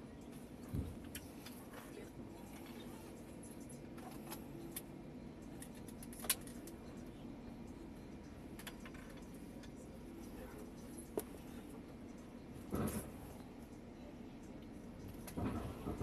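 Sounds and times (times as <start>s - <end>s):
train hum from inside: 0.0s - 16.0s.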